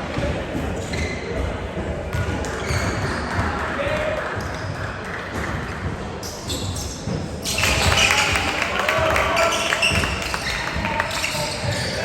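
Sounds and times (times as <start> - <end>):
voices of players and spectators: 0.0 - 12.0.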